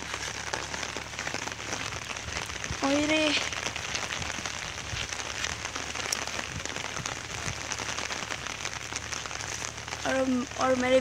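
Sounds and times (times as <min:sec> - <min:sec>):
rain drops on plastic sheet: 0:00.0 - 0:11.0.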